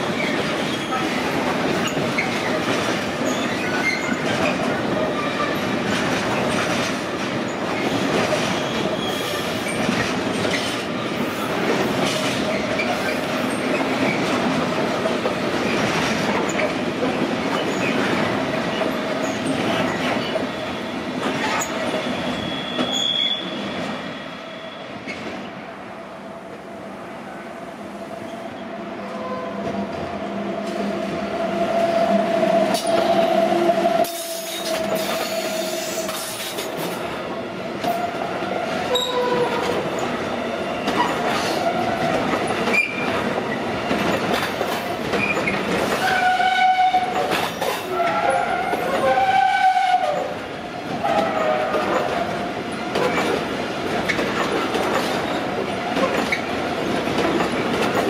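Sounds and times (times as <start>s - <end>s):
electric locomotives passing: 0.0s - 58.0s
rail rumble and wheel clatter: 0.0s - 58.0s.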